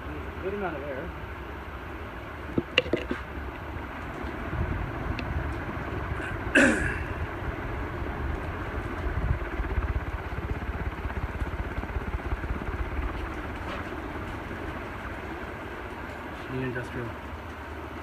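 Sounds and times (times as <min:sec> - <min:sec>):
ceiling fan airflow rumble: 0:00.0 - 0:18.0.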